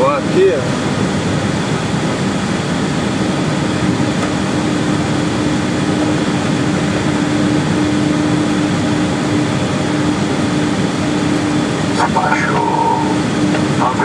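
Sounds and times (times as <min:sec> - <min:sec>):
jet engines idling: 0:00.0 - 0:14.0
steady hum: 0:00.0 - 0:14.0.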